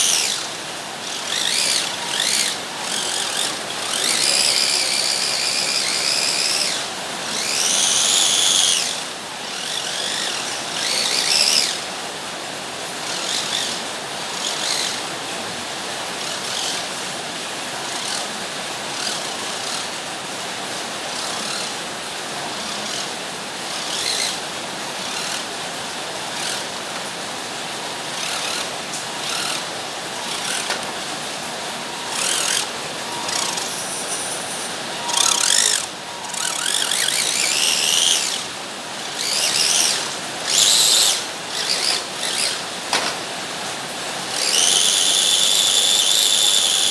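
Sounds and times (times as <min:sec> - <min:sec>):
toy car electric motors whining: 0:00.0 - 0:46.9.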